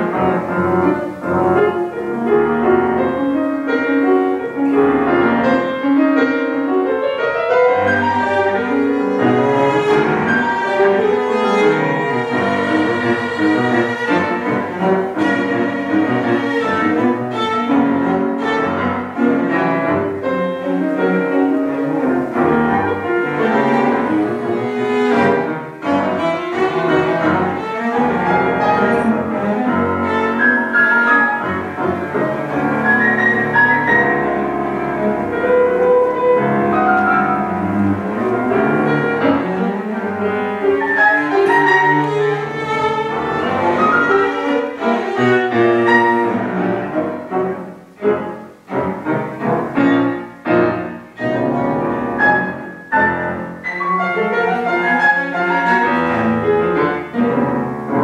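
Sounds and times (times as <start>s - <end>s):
bowed cello melody: 0.0s - 58.0s
piano chords: 0.0s - 58.0s.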